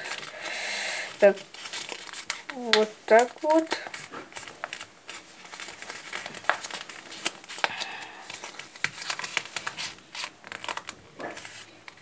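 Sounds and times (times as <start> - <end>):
paper crackling as folded: 0.0 - 0.5, 1.1 - 12.0
paper crinkling and rustling: 0.0 - 0.5, 1.1 - 12.0.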